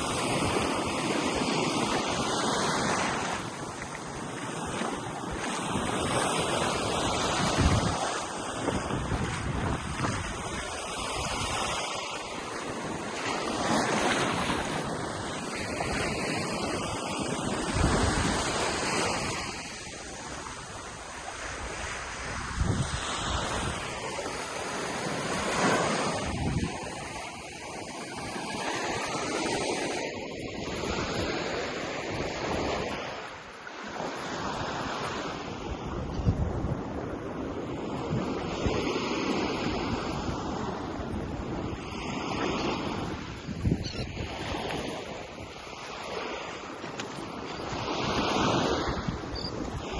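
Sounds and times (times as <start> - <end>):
wind buffeting microphone: 0.0 - 31.5, 35.8 - 45.6
ocean surf breaking on beach: 0.0 - 49.9.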